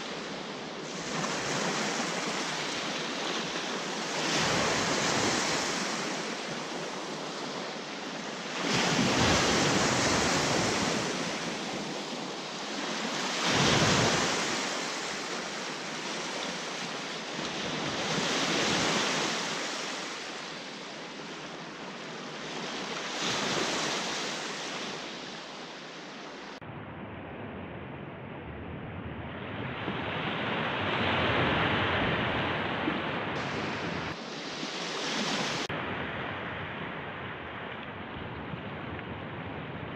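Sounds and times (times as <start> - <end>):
small waves washing up shore: 0.0 - 26.6, 29.8 - 39.0.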